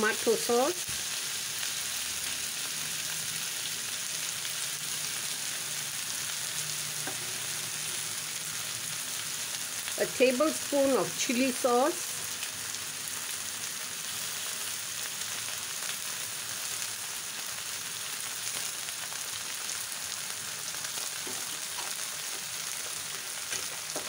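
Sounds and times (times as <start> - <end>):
noodles sizzling in a wok: 0.0 - 24.0.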